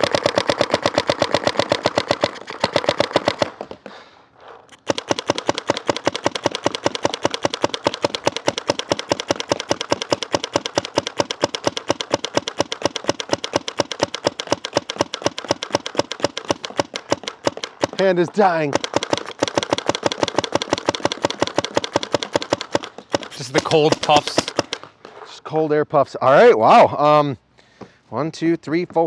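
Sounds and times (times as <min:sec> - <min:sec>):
paintball marker shots: 0:00.0 - 0:03.8, 0:04.7 - 0:25.0.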